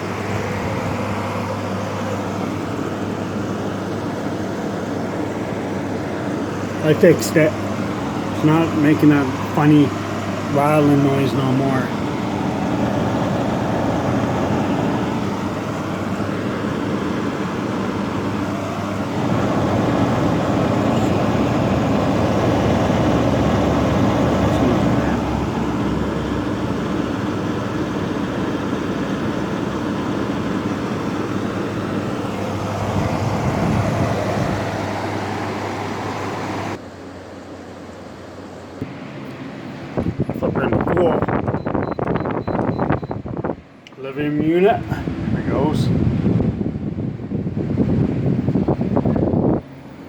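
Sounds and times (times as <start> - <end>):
air conditioner humming: 0.0 - 50.0.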